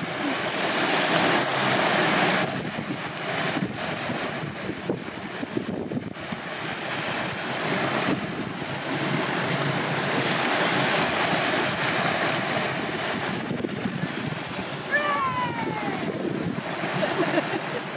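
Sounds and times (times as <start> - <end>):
small waves lapping on shore: 0.0 - 17.9
wind buffeting microphone: 0.0 - 17.9.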